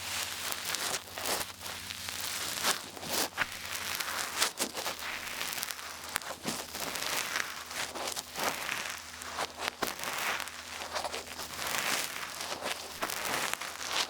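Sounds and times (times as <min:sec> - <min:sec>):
ear pick scratching in ear: 0:00.0 - 0:14.0.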